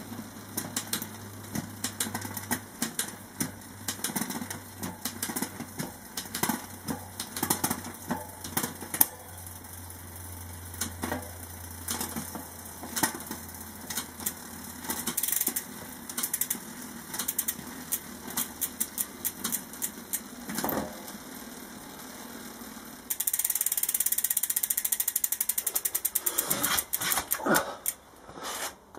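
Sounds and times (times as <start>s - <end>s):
bike chain and derailleur clicks: 0.0s - 28.0s
freehub fast ticking: 0.1s - 28.2s.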